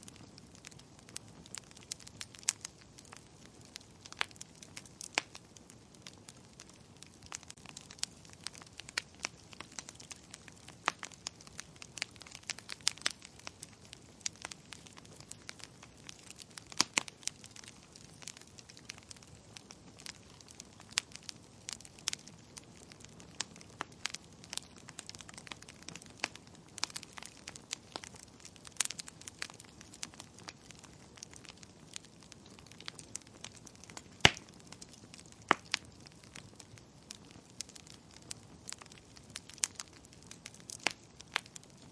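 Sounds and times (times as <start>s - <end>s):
faint steady hiss: 0.0s - 41.9s
wood fire crackling and popping: 0.0s - 41.9s.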